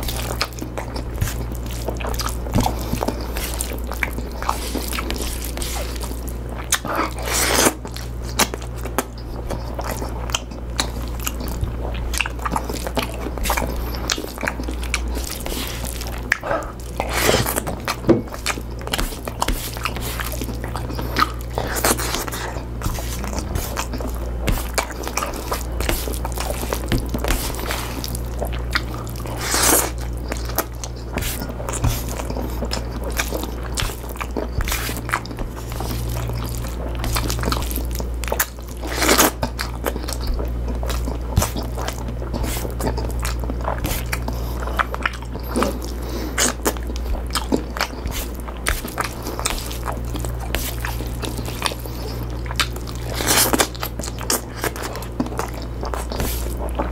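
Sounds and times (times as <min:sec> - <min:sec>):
close chewing and biting: 0:00.0 - 0:56.9
soft crunches of vegetables: 0:00.0 - 0:56.9
steady low hum: 0:00.0 - 0:56.9.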